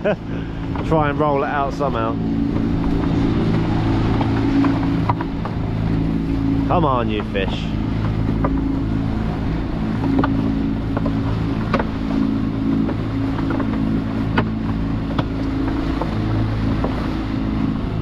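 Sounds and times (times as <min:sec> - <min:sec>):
boat engine running: 0:00.0 - 0:18.0
water rushing past hull: 0:00.0 - 0:18.0
wind on microphone: 0:00.0 - 0:18.0.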